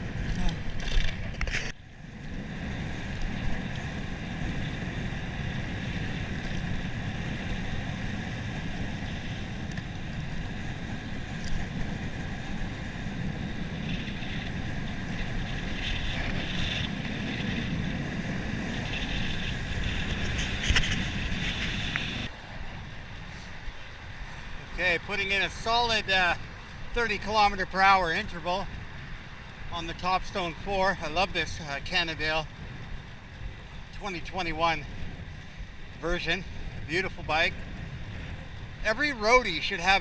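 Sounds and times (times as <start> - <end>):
bicycle tyre road noise: 0.0 - 40.0
wind noise on microphone: 0.0 - 40.0.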